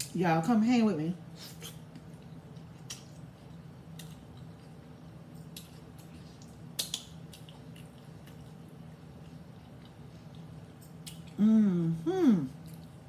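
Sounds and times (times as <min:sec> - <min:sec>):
low steady hum: 0:00.0 - 0:13.0
chewing crunchy taco: 0:01.3 - 0:11.4, 0:12.5 - 0:13.0.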